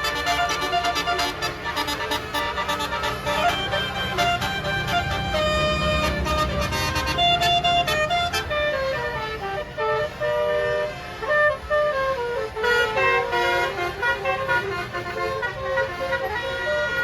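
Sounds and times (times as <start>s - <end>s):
multi-tone air horn melody: 0.0s - 17.0s.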